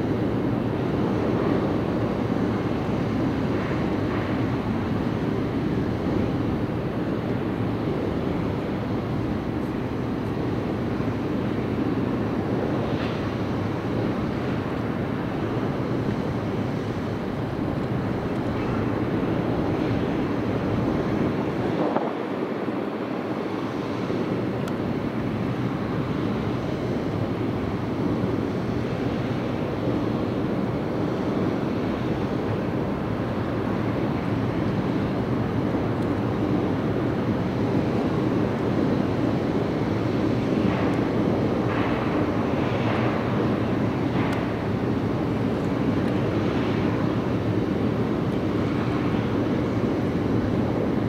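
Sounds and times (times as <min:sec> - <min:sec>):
exhaust rushing steam and spray: 0:00.0 - 0:51.0.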